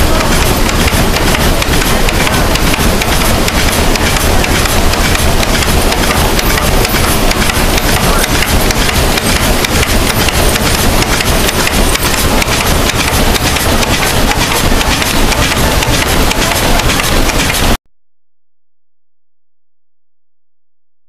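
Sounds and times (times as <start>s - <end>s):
sawmill machinery clattering: 0.0s - 17.8s.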